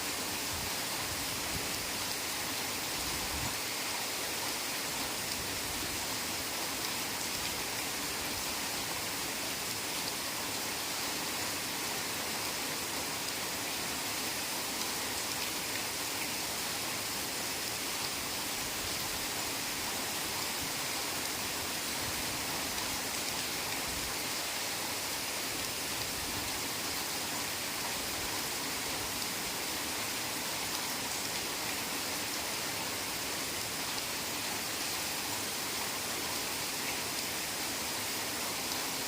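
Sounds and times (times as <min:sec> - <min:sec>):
heavy rain hiss: 0:00.0 - 0:39.0.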